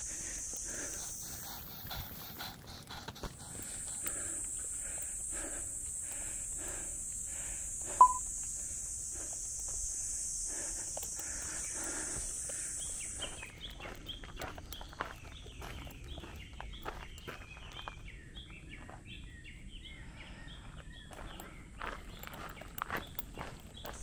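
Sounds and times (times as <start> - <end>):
footsteps on dirt trail: 0.0 - 7.2, 7.8 - 19.3, 20.3 - 24.0.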